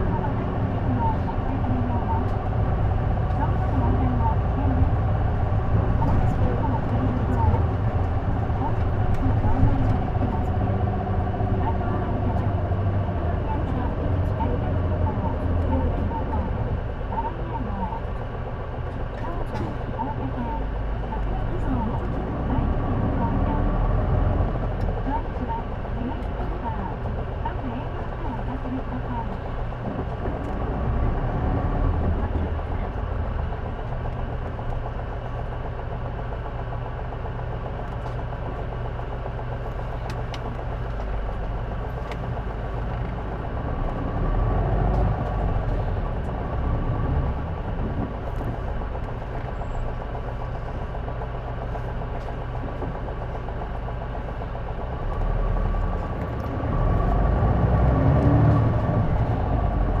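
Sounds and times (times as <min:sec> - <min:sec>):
bus engine rumbling: 0:00.0 - 1:00.0.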